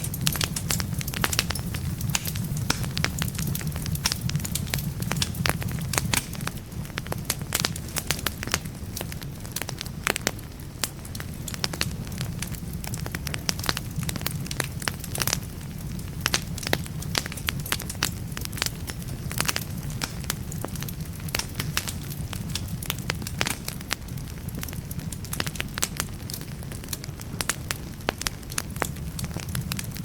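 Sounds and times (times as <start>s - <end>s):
firewood crackling in fireplace: 0.0s - 30.0s.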